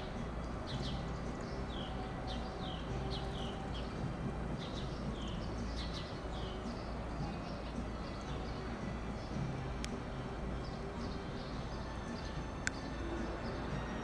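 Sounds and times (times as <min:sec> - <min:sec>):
songbird chirping: 0:00.0 - 0:14.0
steady low hum: 0:00.0 - 0:14.0.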